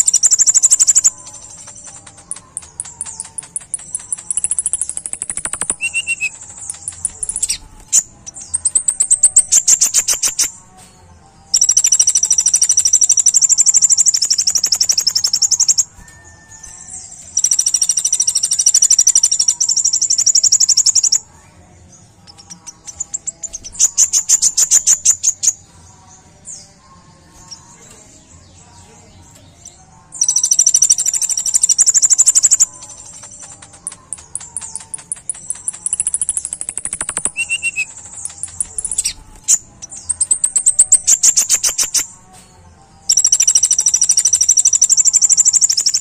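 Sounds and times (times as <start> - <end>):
bird singing fast trills: 0.0 - 10.6, 11.5 - 21.4, 22.2 - 42.3, 43.0 - 46.0.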